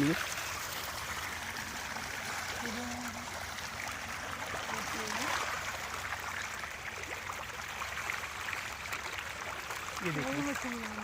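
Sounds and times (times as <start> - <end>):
fish splashing at water surface: 0.0 - 11.0.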